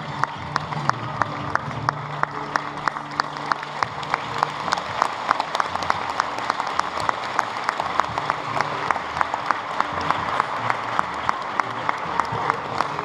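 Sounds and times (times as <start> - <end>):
applause in a large hall: 0.0 - 13.0
audience rhythmic clapping: 0.0 - 13.0.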